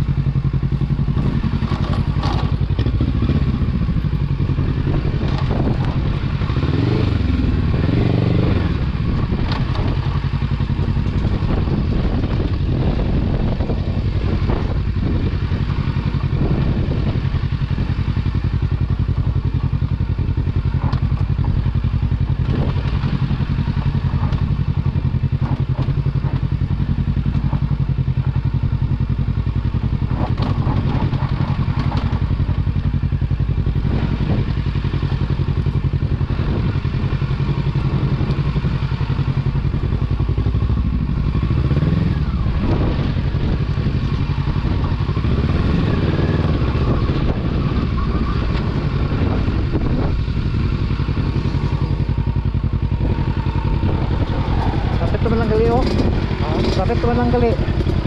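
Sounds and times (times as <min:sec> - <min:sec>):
clatter and knocks over rough trail: 0:00.0 - 0:58.0
motorcycle engine running: 0:00.0 - 0:58.0.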